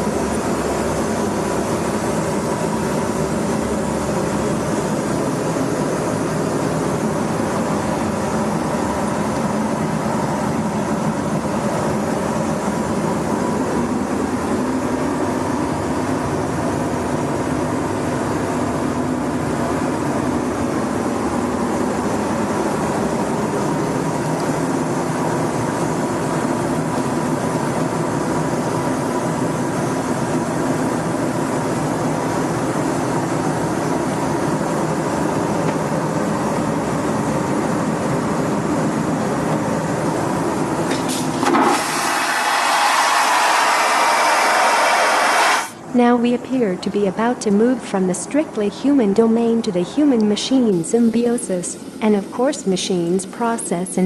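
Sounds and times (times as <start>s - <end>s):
passenger train rumbling: 0.0s - 53.9s.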